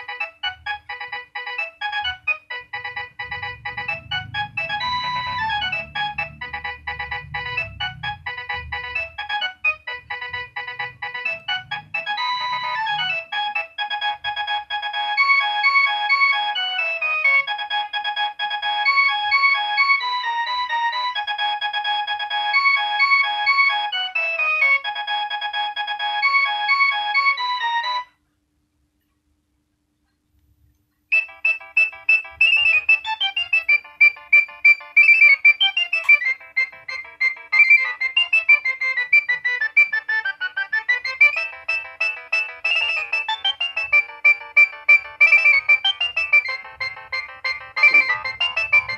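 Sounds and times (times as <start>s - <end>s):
mobile phone ringtone: 0.0s - 28.1s, 31.1s - 48.9s.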